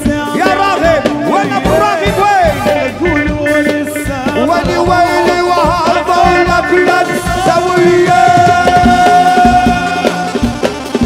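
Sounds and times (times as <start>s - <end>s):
hand drum and drum kit beat: 0.0s - 11.0s
ornamented melody line: 0.0s - 11.0s.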